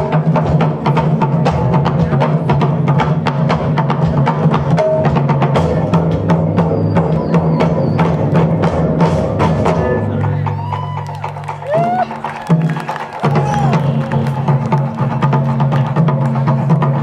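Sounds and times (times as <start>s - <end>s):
bass line: 0.0s - 17.0s.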